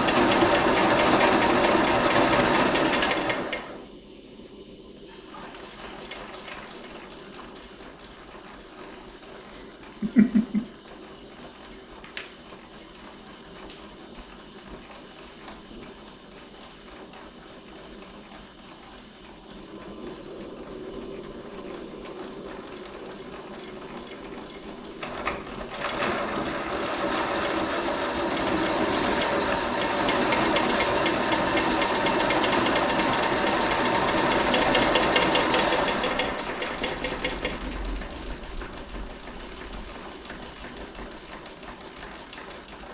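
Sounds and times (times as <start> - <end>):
steam engine clatter with hiss: 0.0 - 10.1, 10.7 - 42.9.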